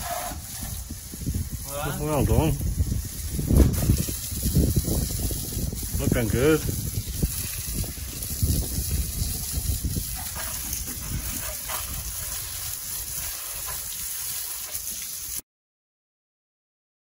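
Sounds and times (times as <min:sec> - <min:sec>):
hose spray hissing: 0:00.0 - 0:15.4.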